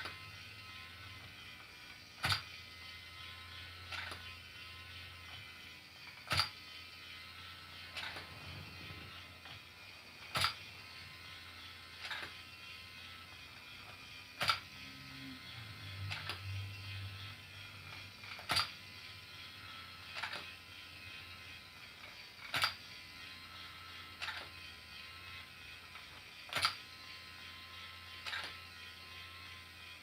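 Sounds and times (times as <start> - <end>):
small geared motor whirring: 0.0 - 30.0.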